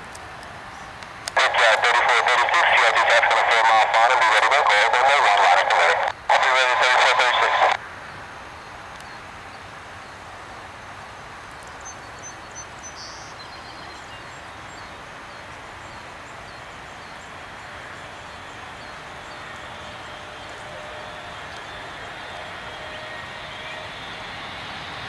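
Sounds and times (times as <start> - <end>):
distant jet engines at takeoff: 0.0 - 25.0.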